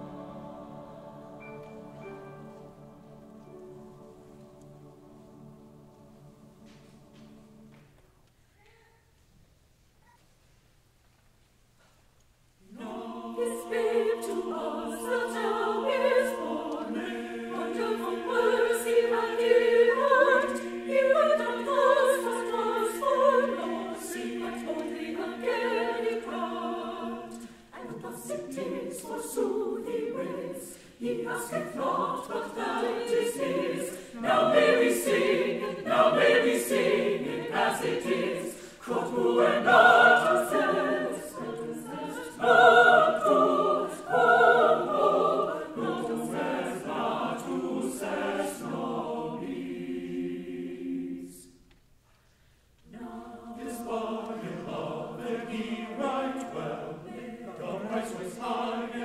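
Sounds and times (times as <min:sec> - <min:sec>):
large mixed choir singing: 0:00.0 - 0:08.0, 0:12.6 - 0:51.6, 0:52.8 - 0:59.0.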